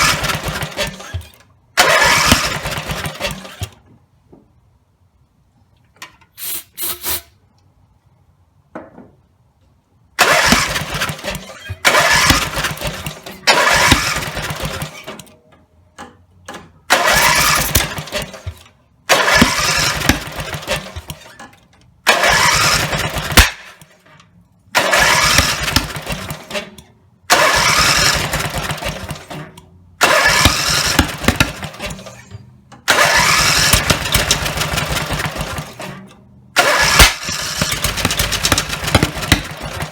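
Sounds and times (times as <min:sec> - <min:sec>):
mower engine cranking: 0:00.0 - 0:03.9, 0:10.2 - 0:15.4, 0:16.0 - 0:39.9.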